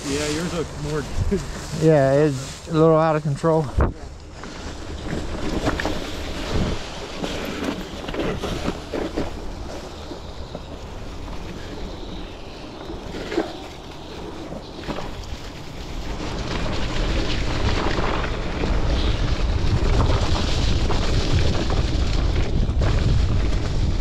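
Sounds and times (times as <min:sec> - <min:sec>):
bike tyres rolling on dirt: 0:00.0 - 0:24.0
wind rushing on microphone: 0:00.0 - 0:24.0.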